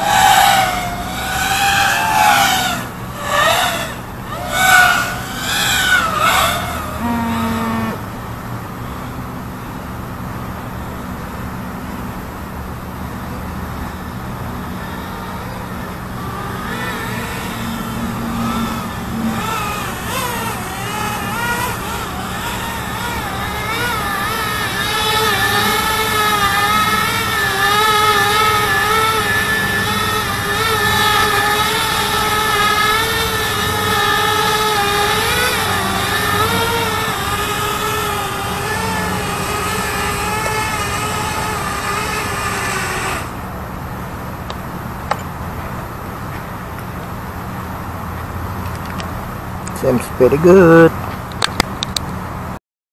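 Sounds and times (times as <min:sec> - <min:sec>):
drone propellers buzzing: 0:00.0 - 0:45.5.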